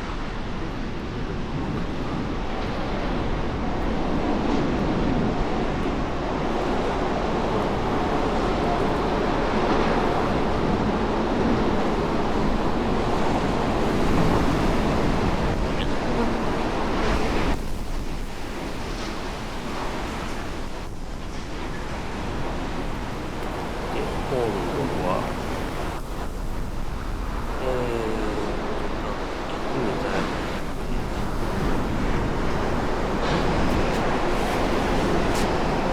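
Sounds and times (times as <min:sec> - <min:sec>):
strong wind on microphone: 0:00.0 - 0:35.9.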